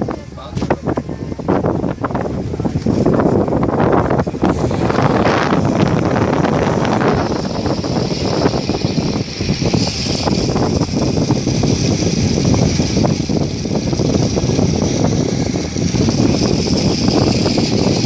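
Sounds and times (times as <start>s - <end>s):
boat noise: 0.0s - 18.0s
water beneath boat: 0.0s - 18.0s
wind buffeting microphone: 0.0s - 18.0s.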